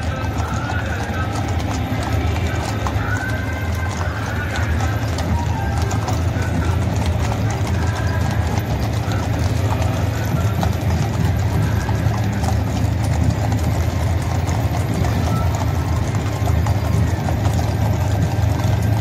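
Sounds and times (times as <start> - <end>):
horse hooves clip-clopping on asphalt: 0.0 - 19.0.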